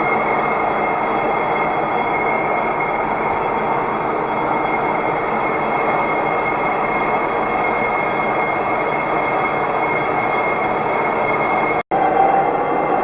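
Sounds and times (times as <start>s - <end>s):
lathe cutting metal: 0.0s - 11.8s
high whine: 0.0s - 13.0s.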